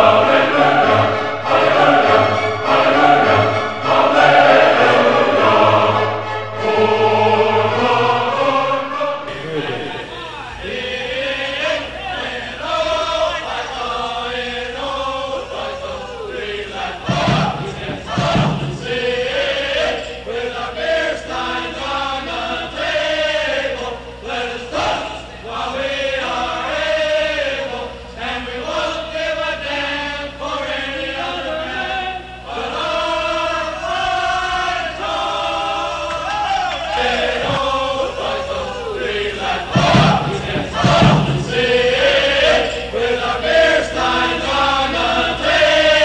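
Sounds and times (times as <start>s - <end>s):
men singing together: 0.0s - 46.0s.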